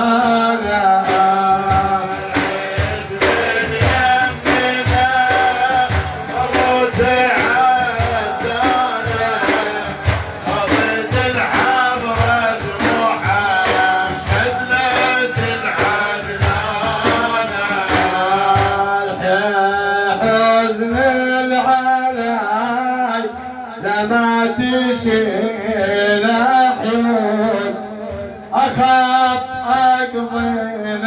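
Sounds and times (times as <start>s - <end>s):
drum beats: 0.0s - 31.0s
lead singer singing: 0.0s - 31.0s.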